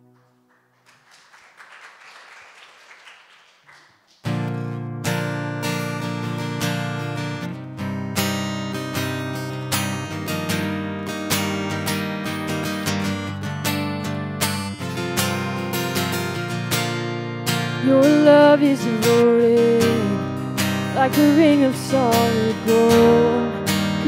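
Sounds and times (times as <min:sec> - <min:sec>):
acoustic guitar strumming chords: 0:04.3 - 0:24.0.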